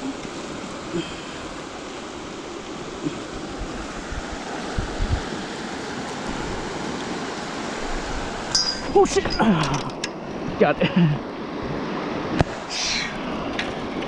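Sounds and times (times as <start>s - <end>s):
flowing water: 0.0s - 14.0s
wind: 0.0s - 14.0s.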